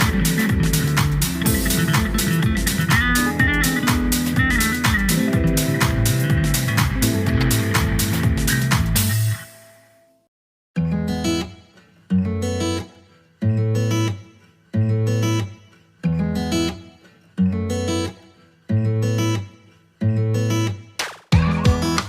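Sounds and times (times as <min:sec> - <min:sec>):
acoustic guitar chord strums: 0:00.0 - 0:10.2, 0:10.8 - 0:22.0.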